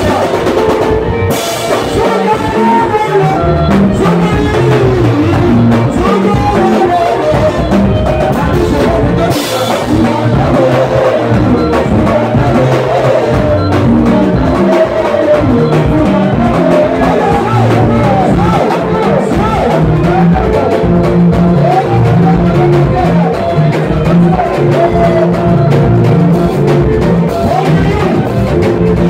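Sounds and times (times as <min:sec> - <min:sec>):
live band playing dance music: 0:00.0 - 0:29.0.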